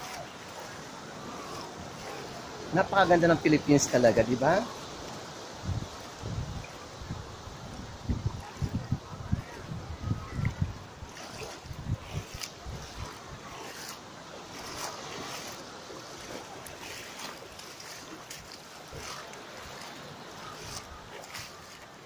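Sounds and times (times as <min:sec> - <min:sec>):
wind buffeting microphone: 0:00.0 - 0:21.8
small waves washing: 0:00.0 - 0:22.0.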